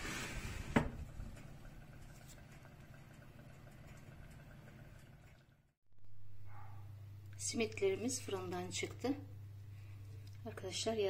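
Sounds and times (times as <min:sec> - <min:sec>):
oven humming: 0:00.0 - 0:11.0.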